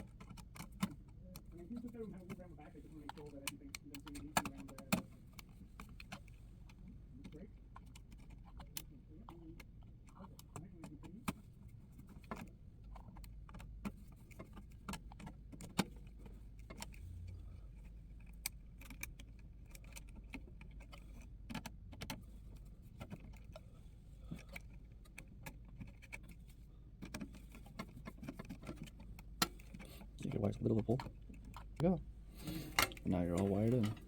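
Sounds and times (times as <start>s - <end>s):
light clicks and metallic rattles: 0.0s - 34.0s.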